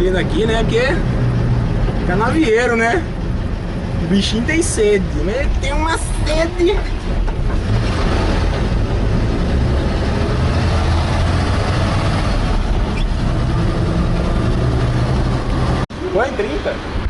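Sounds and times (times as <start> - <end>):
pickup engine running: 0.0 - 15.9
road noise: 0.0 - 17.0.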